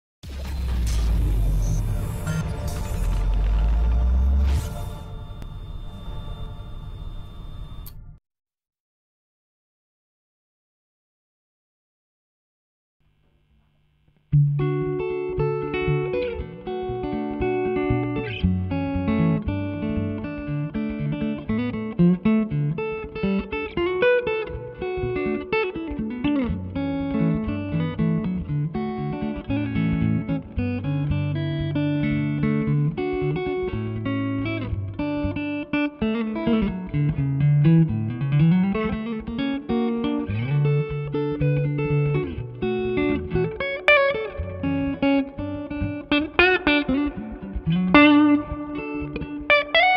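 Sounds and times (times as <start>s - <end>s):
electric guitar playing: 0.7s - 6.4s, 14.3s - 49.9s.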